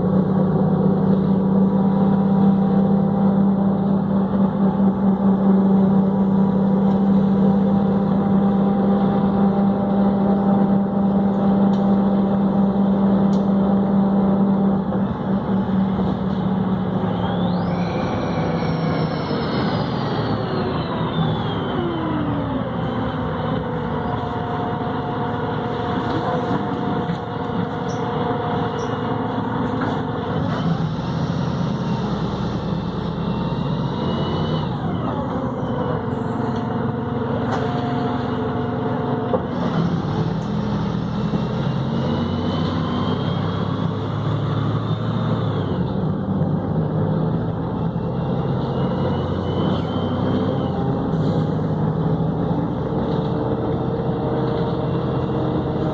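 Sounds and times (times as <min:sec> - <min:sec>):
bus engine and transmission whine: 0:00.0 - 0:55.9.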